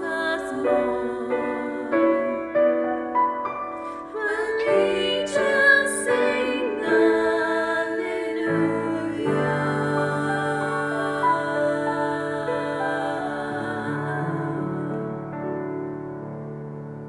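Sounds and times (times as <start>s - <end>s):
female voices singing: 0.0s - 2.9s, 3.9s - 15.3s
piano accompaniment: 0.0s - 17.0s.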